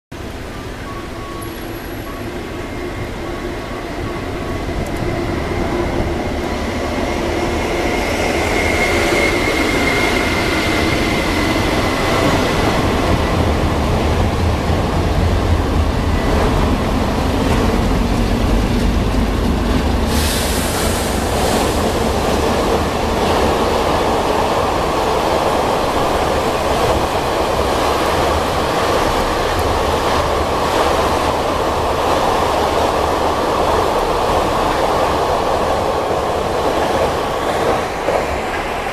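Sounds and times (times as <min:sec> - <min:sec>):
train wheels rumbling on rails: 0:00.2 - 0:38.9.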